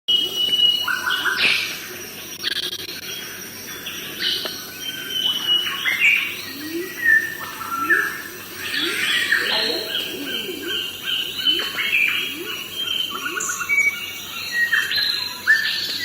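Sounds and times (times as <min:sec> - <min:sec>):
birds chirping and whistling: 0:00.1 - 0:16.0.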